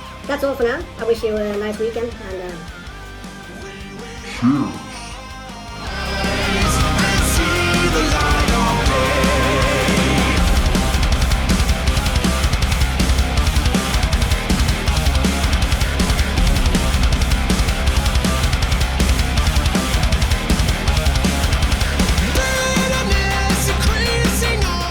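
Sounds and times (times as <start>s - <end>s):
heavy metal music: 0.0s - 24.9s.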